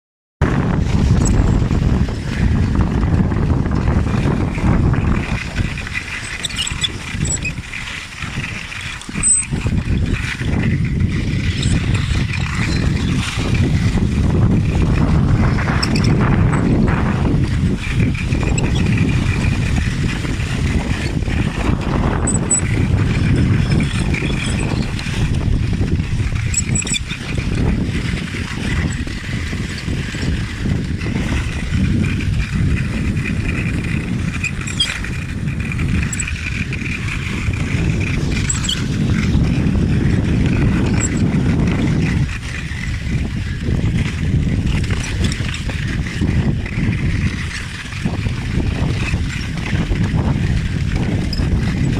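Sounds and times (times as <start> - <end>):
wind buffeting microphone: 0.4 - 51.9.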